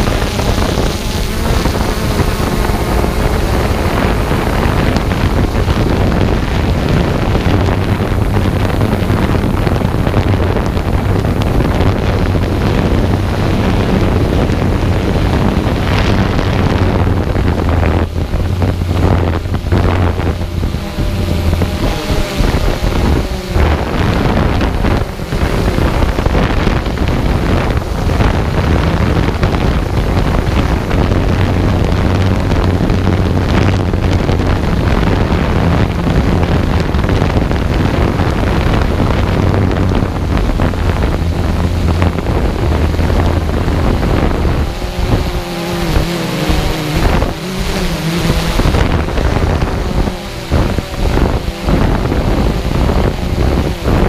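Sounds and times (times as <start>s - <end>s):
quadcopter motors humming: 0.0s - 54.0s
wind buffeting microphone: 0.0s - 54.0s.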